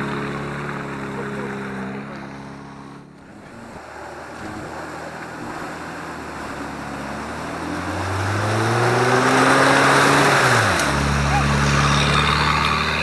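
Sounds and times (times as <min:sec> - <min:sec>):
off-road engine revving: 0:00.0 - 0:13.0
wheels churning through mud: 0:00.0 - 0:13.0.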